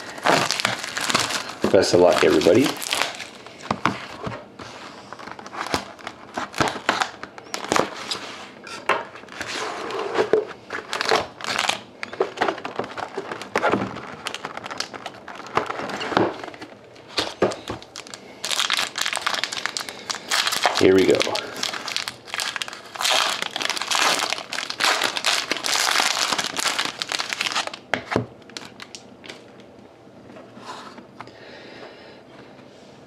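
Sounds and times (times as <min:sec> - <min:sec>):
foil wrapping crinkling: 0:00.0 - 0:08.3, 0:10.6 - 0:29.5.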